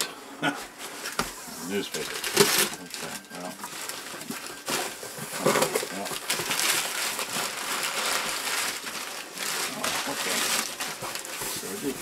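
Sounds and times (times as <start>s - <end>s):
newspaper rustling and crackling: 0.8s - 12.0s.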